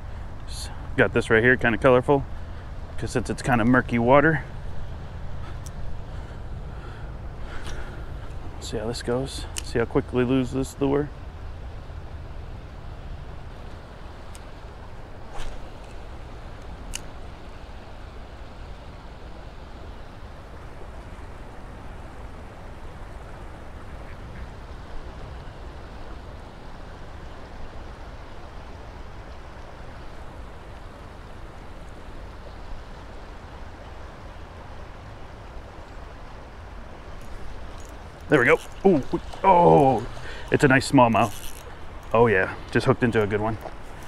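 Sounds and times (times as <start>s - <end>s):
river current rushing: 0.0s - 44.0s.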